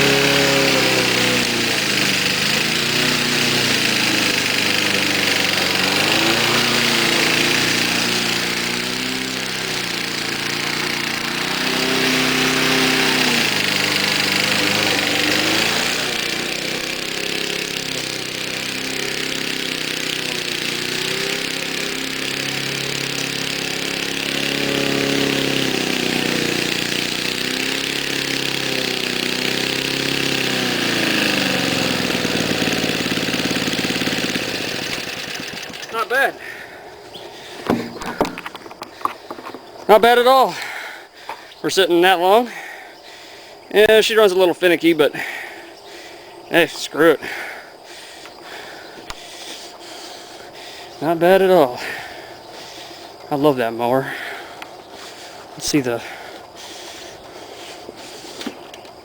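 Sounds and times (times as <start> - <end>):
lawn mower engine running: 0.0 - 42.6, 43.7 - 59.0.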